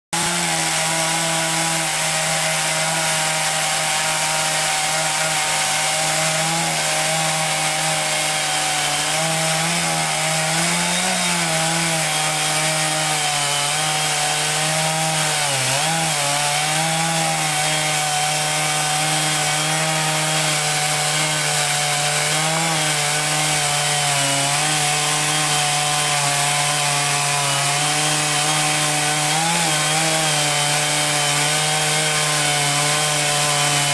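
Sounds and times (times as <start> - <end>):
sawmill engine: 0.2 - 33.9.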